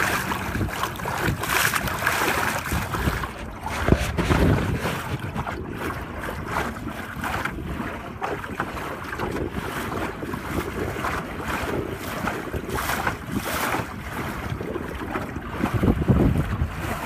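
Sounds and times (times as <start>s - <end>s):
water splashing along hull: 0.0s - 17.0s
wind buffeting microphone: 0.0s - 17.0s.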